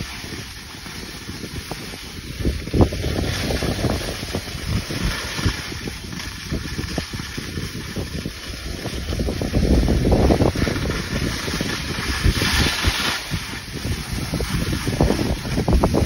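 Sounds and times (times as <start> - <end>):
ski edges scraping: 0.0 - 16.0
skis hissing over packed snow: 0.0 - 16.0
wind buffeting microphone: 0.0 - 16.0.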